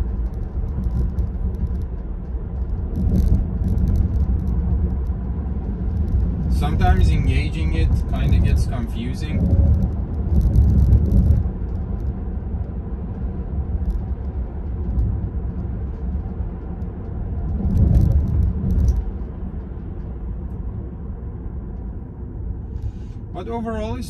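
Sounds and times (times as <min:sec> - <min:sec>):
road and tyre noise: 0:00.0 - 0:24.0.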